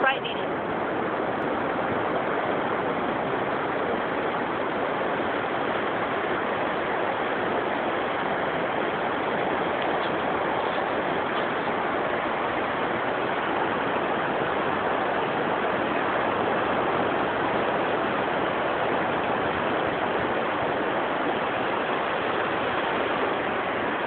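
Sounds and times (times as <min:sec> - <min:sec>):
ocean surf rushing: 0:00.0 - 0:24.0.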